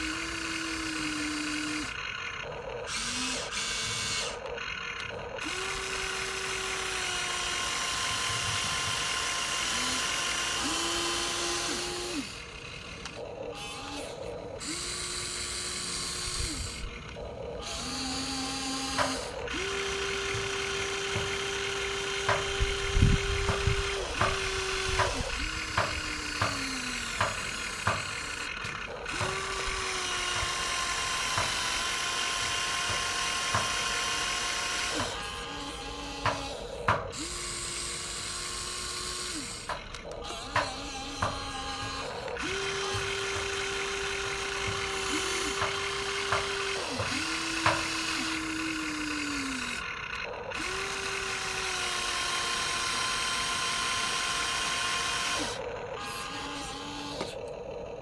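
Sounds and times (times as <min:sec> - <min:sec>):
toy electric motors whining: 0:00.0 - 0:58.0.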